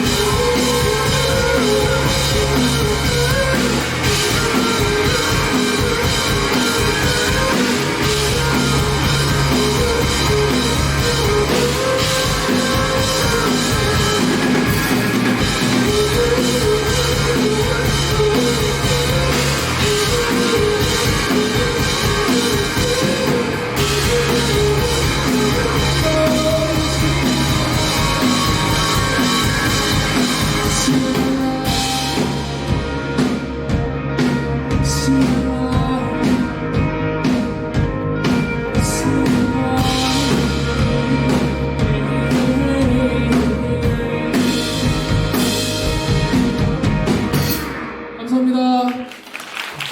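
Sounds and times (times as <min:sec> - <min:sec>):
drum kit beat: 0:00.0 - 0:48.6
rock band playing live: 0:00.0 - 0:49.9.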